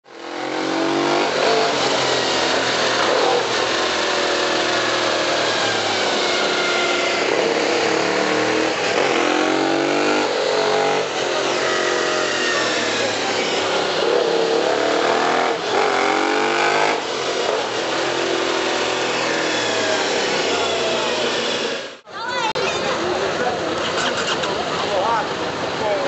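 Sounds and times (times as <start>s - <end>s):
motorcycle engine revving: 0.0s - 22.1s, 23.8s - 26.0s.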